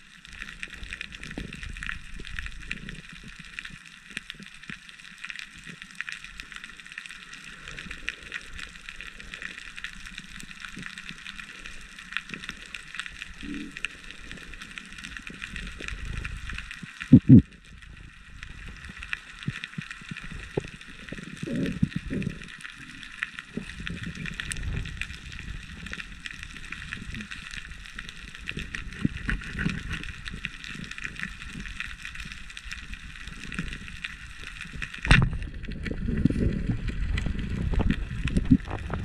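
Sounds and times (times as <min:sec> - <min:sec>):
underwater crackle of clicks: 0:00.0 - 0:39.0
bumps and swishes in water: 0:07.3 - 0:39.0.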